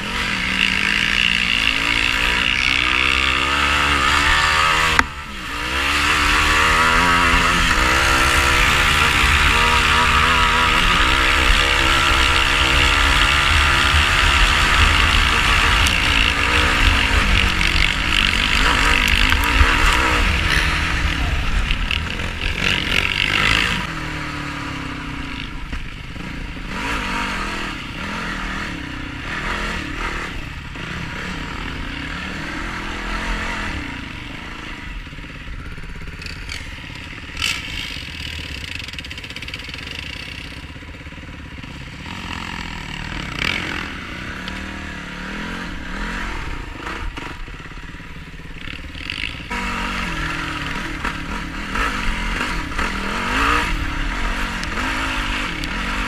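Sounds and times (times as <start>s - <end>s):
quad engine revving: 0.0s - 56.0s.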